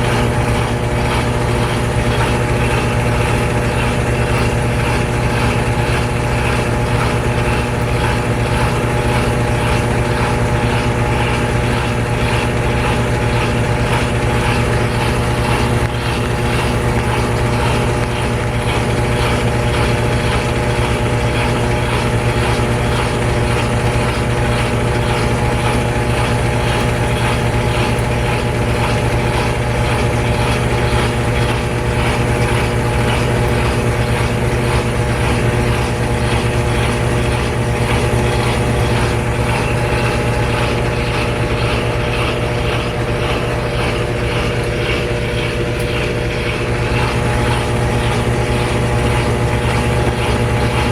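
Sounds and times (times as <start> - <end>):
washer motor whining tones: 0.0 - 50.9
washing machine spinning: 0.0 - 50.9.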